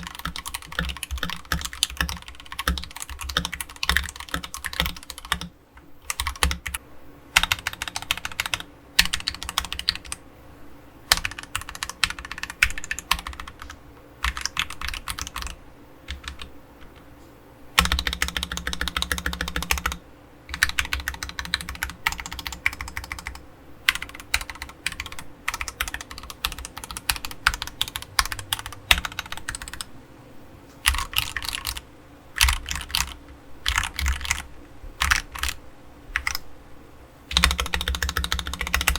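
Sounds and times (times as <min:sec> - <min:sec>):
mechanical keyboard keys clacking: 0:00.0 - 0:06.8, 0:07.4 - 0:10.2, 0:11.1 - 0:17.1, 0:17.8 - 0:29.9, 0:30.8 - 0:31.8, 0:32.4 - 0:35.6, 0:36.2 - 0:36.4, 0:37.3 - 0:38.9.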